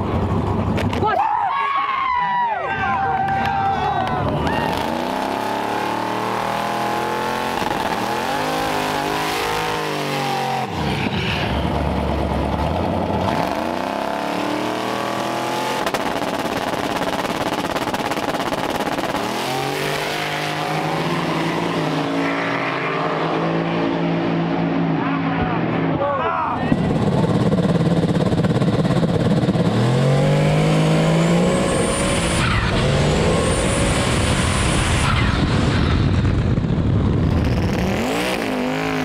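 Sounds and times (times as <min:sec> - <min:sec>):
vehicles launching down strip: 0:00.0 - 0:39.0
turbocharged engine revving: 0:04.3 - 0:25.9, 0:26.7 - 0:39.0.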